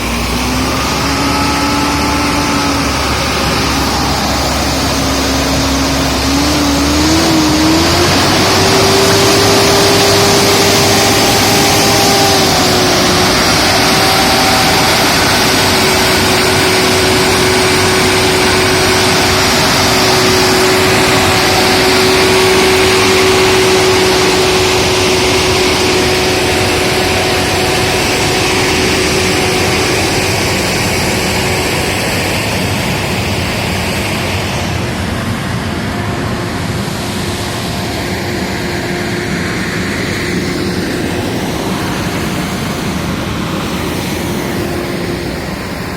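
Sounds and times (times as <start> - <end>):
old truck engine running: 0.0 - 45.9
steady whine: 0.0 - 45.9.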